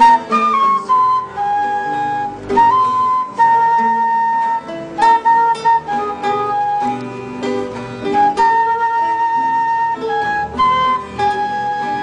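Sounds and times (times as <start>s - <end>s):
plucked strings: 0.0s - 12.0s
woodwind melody of long notes: 0.0s - 12.0s.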